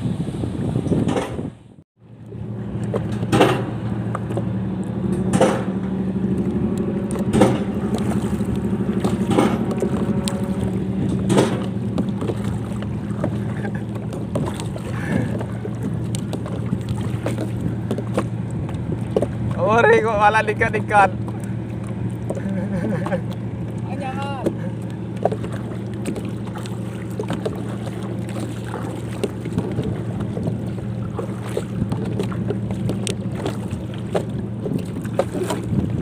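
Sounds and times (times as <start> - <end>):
steady low hum: 2.0 - 36.0
paddle splashing water: 2.1 - 36.0.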